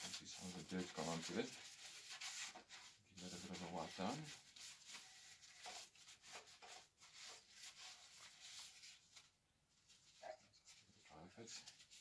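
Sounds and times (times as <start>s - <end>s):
cloth rubbing on metal: 0.0s - 12.0s.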